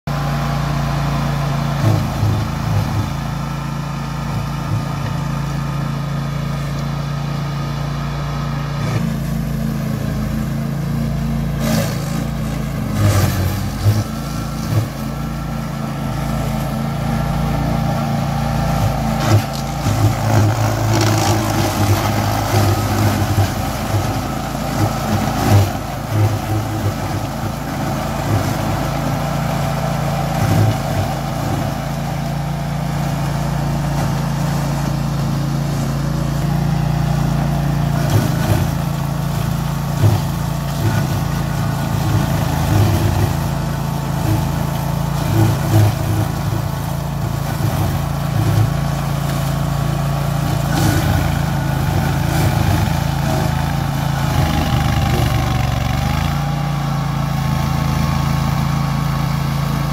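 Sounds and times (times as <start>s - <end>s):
brush mower running: 0.0s - 59.9s.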